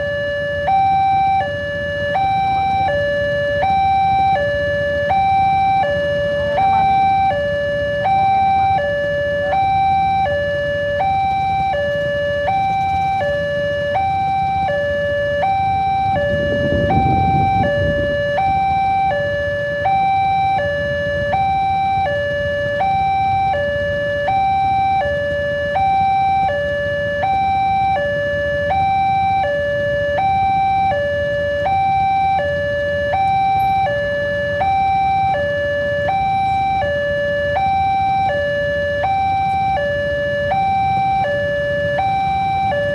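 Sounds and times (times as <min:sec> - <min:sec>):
level crossing alarm tones: 0:00.0 - 0:42.9.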